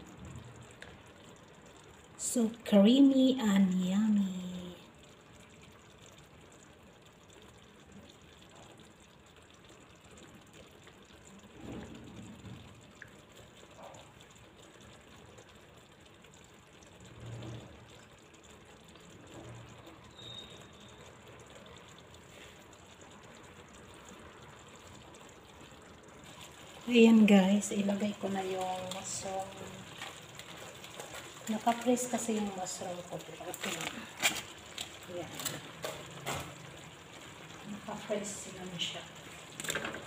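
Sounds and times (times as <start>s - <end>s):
sauce simmering in a frying pan: 0.0s - 40.0s.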